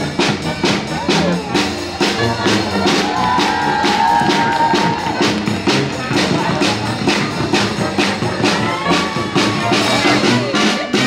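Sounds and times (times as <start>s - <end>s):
brass and drum street band: 0.0s - 11.0s.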